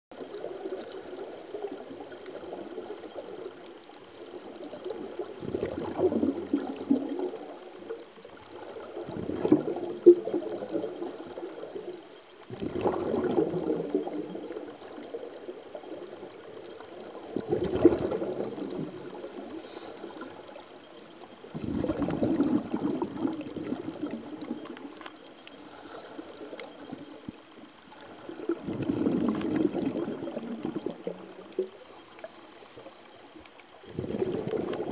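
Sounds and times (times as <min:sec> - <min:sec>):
low rushing of water: 0:00.2 - 0:34.9
underwater bubbles rushing: 0:00.2 - 0:34.9.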